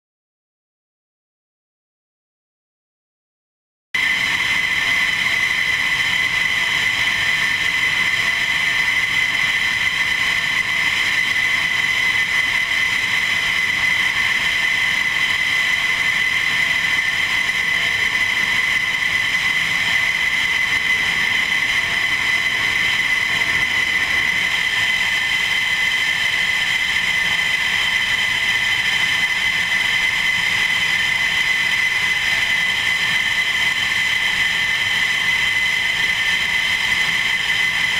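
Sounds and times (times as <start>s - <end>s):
jet engine turbine whine: 4.0s - 37.9s.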